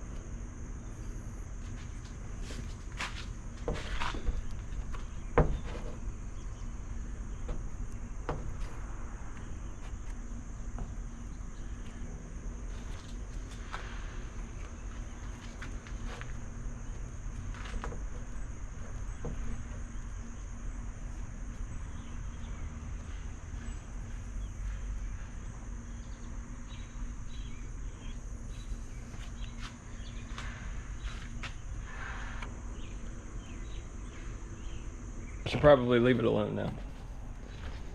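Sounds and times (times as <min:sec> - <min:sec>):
crickets chirring: 0:00.0 - 0:37.9.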